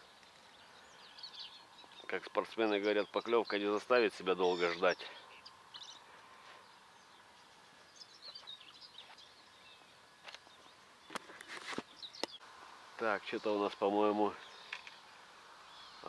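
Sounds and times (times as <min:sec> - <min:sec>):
faint bird chirps: 0:00.0 - 0:12.4, 0:13.3 - 0:16.0.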